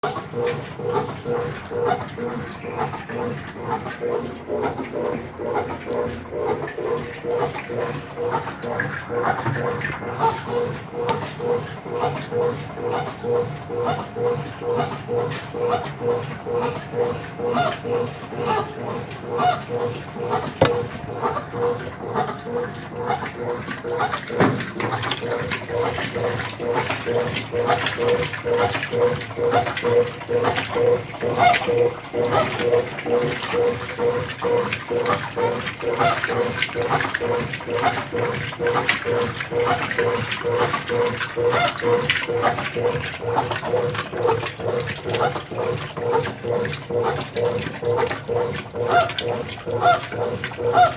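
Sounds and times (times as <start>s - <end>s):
washing machine pulsing hum: 0.0s - 50.9s
water sloshing: 1.1s - 12.9s, 15.8s - 50.9s.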